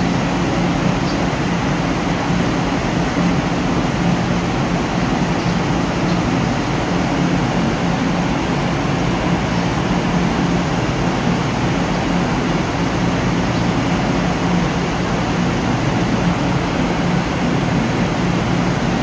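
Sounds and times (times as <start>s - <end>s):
diesel railcar engines idling: 0.0s - 19.0s.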